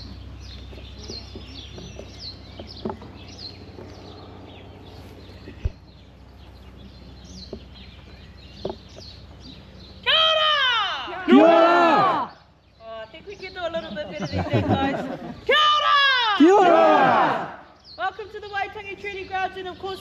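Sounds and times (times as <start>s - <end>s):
small birds chirping: 0.0s - 15.6s, 16.7s - 20.0s.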